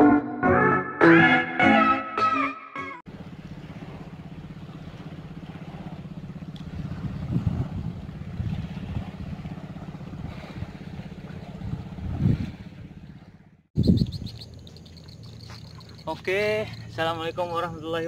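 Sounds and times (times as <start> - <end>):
engine running with low throb: 3.1 - 18.0.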